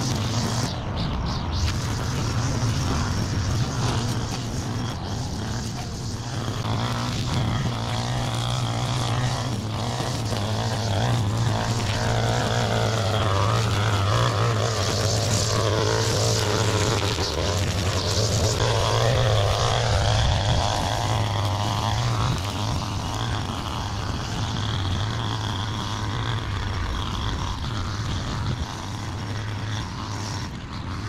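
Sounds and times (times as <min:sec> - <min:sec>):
string trimmer cutting grass: 0:00.0 - 0:31.0.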